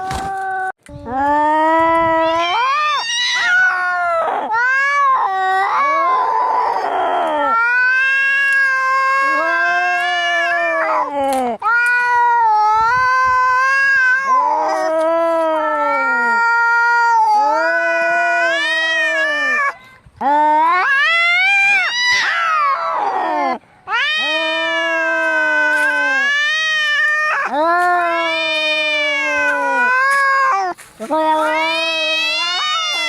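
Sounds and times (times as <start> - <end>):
cats yowling: 1.4 - 33.0.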